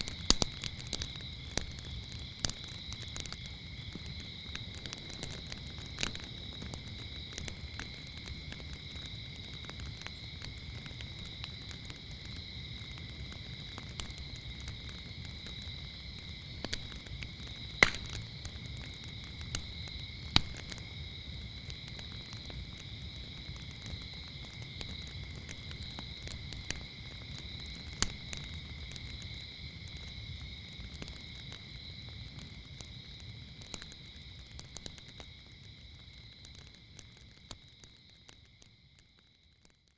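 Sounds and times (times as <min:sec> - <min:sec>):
crickets chirping: 0:00.0 - 0:39.9
loud fire snaps: 0:00.0 - 0:39.9
wood fire crackling: 0:00.0 - 0:39.9.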